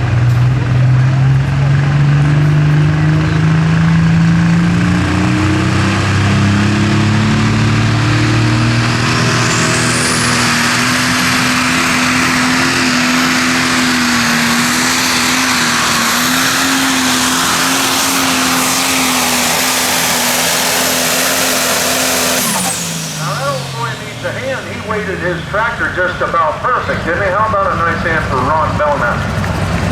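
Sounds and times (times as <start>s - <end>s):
high engine whine: 0.0s - 29.9s
tractor engine running flat out: 0.0s - 29.9s.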